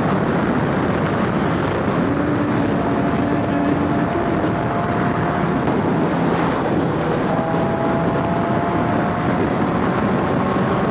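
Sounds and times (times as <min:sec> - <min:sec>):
motorcycle engine: 0:00.0 - 0:10.9
wind rushing over microphone: 0:00.0 - 0:10.9.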